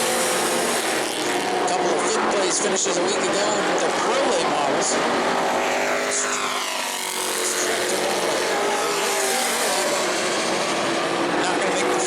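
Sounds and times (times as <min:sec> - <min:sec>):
race truck engines passing: 0:00.0 - 0:12.0.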